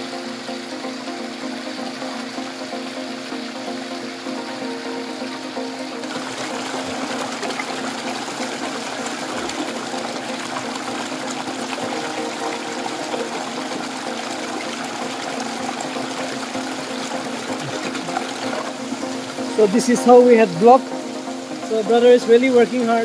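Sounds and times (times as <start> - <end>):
stream running over rocks: 0.0 - 23.0.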